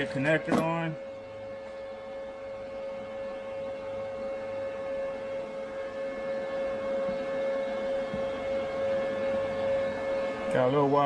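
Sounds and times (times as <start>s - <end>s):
steady electrical whine: 0.0s - 11.0s.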